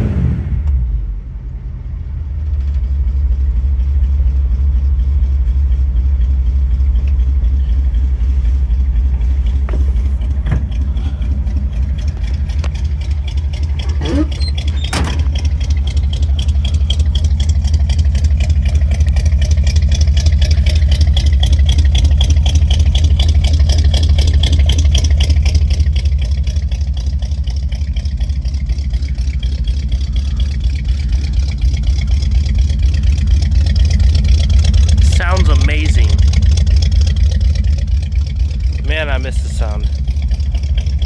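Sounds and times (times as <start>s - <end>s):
engine idling with deep rumble: 0.0s - 41.0s.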